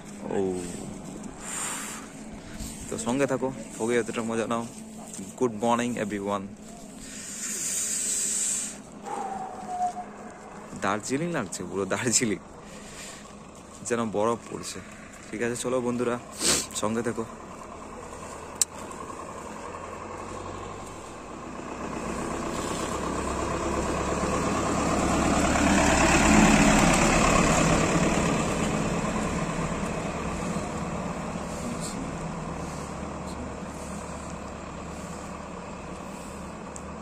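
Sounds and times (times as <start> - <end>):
bus driving past: 0.0 - 37.0.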